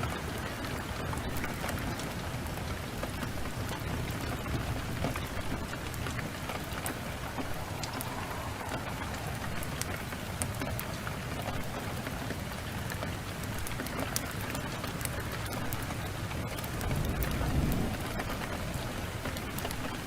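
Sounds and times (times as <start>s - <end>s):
heavy rain: 0.0s - 20.0s
wood fire crackling: 0.0s - 20.0s.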